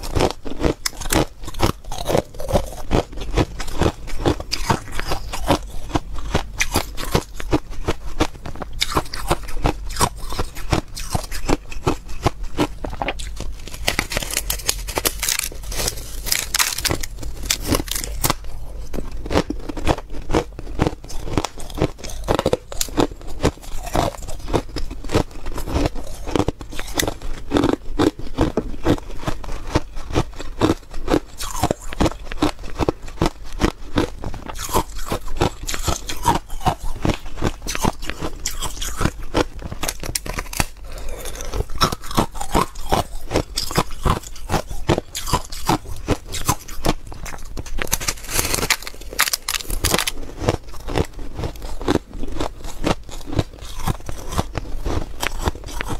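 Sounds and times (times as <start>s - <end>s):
ice crunching as chewed: 0.0s - 55.9s.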